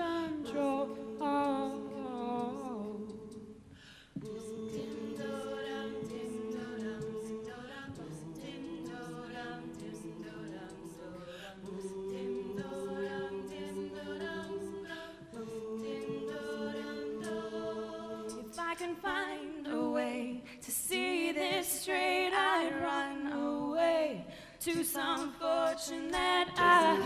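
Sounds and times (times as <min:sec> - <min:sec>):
vocal percussion beat: 0:00.0 - 0:23.4, 0:24.2 - 0:27.0
group singing sustained chords: 0:00.0 - 0:27.0.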